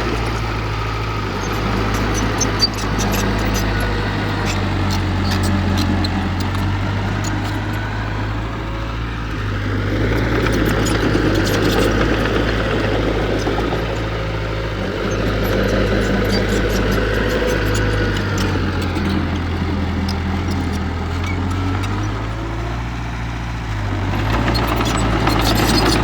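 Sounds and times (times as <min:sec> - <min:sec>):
diesel machinery running: 0:00.0 - 0:26.0.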